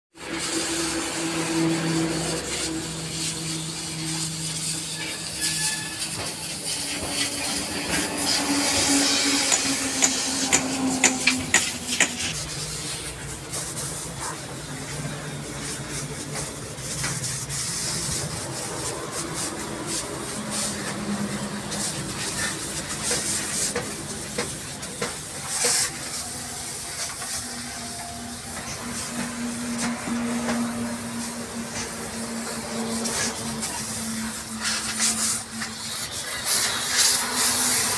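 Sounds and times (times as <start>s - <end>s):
water spray hissing: 0.2s - 37.9s.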